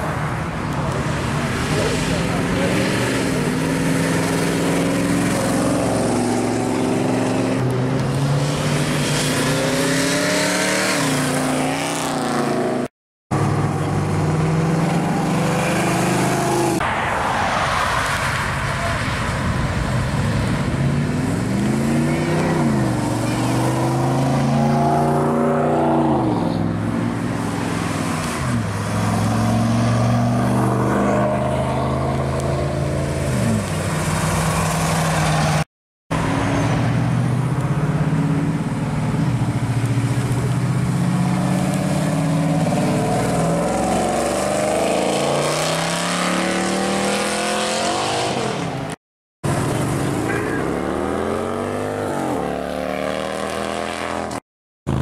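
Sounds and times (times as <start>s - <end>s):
car engines accelerating: 0.0s - 55.0s.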